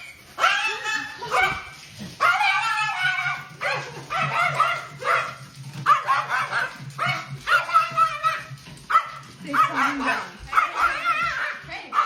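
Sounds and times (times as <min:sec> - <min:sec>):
dog barking and yelping: 0:00.4 - 0:12.0.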